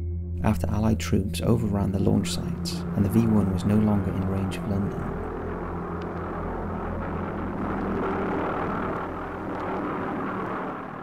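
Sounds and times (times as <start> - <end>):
pulse-jet engine drone: 0.0 - 11.0.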